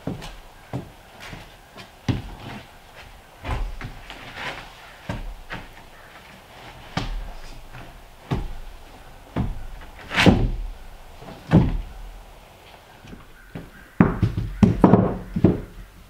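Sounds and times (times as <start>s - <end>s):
heavy knocks and thuds: 0.0s - 6.1s, 6.8s - 12.3s, 13.1s - 15.9s.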